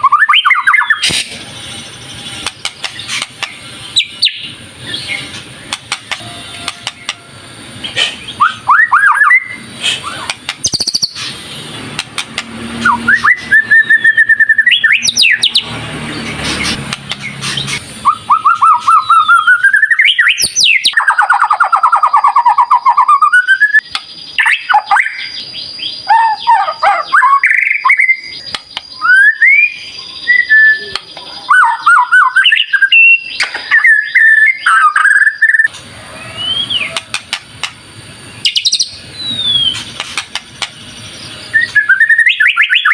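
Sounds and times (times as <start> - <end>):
bird singing loud whistles: 0.0 - 11.8, 12.7 - 37.2, 38.3 - 42.9.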